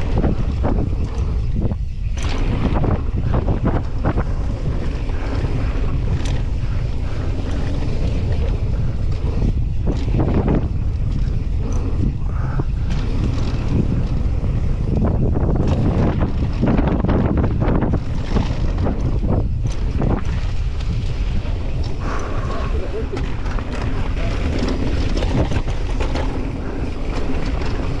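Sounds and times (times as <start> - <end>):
bike knocking and rattling: 0.0 - 28.0
wind buffeting microphone: 0.0 - 28.0.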